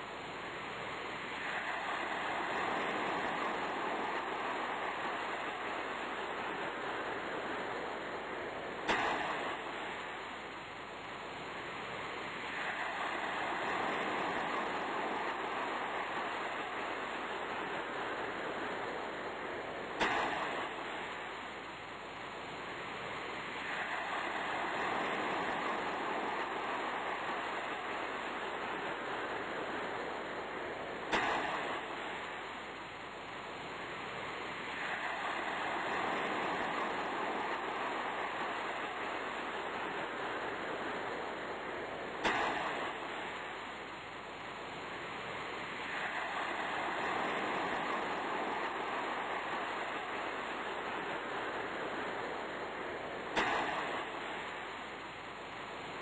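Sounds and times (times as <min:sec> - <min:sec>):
sea surf washing: 0:00.0 - 0:56.0.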